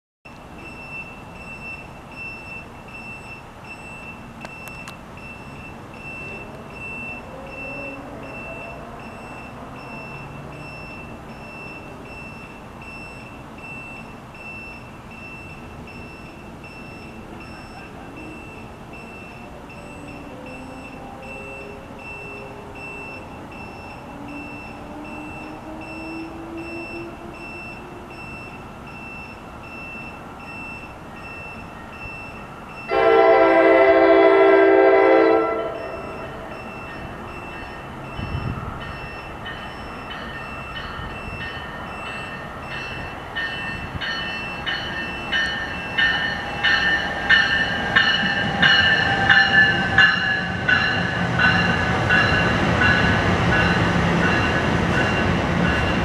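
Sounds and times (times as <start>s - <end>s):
high electronic beep: 0.6s - 32.9s, 35.7s - 52.4s
electric train rumble: 5.3s - 56.0s.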